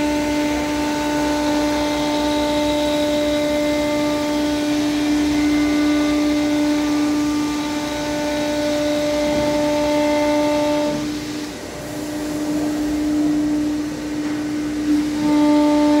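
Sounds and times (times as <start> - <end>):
router machine whine: 0.0 - 16.0
rushing vacuum-like noise: 0.0 - 16.0.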